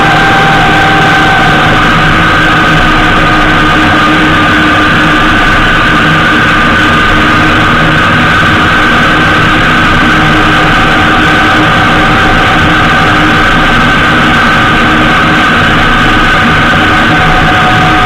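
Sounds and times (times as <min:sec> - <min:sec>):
motorcycle engine droning: 0:00.0 - 0:18.0
road noise: 0:00.0 - 0:18.0.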